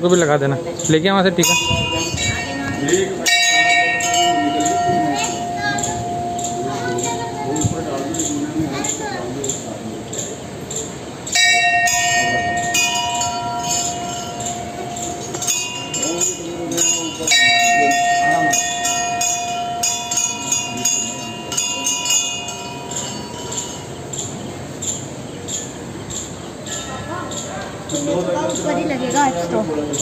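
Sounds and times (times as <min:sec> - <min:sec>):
temple bell clanging: 0:00.0 - 0:30.0.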